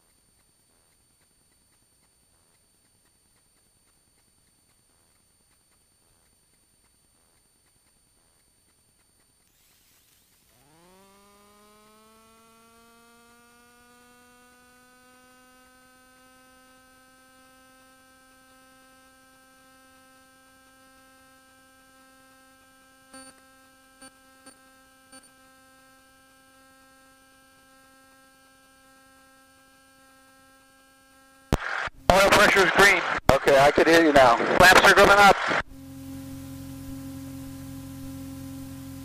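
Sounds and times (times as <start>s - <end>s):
faint electrical whine: 0.0s - 39.0s.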